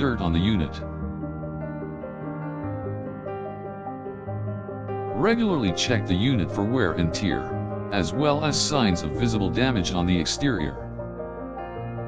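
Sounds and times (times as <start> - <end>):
soft sustained keyboard notes: 0.0 - 12.0.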